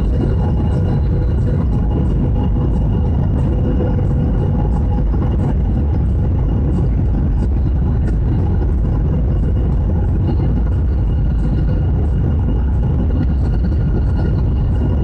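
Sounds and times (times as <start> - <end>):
faint steady whine: 0.0 - 15.0
jet airliner rumble: 0.0 - 15.0.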